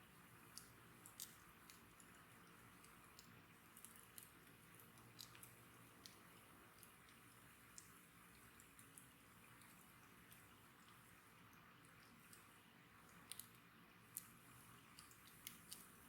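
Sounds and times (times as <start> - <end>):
soft steady hiss: 0.0 - 16.0.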